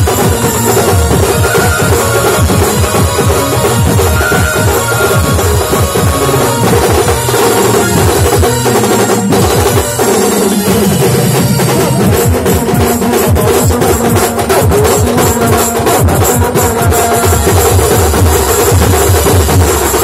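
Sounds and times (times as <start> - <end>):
drum-heavy music over loudspeakers: 0.0 - 20.0.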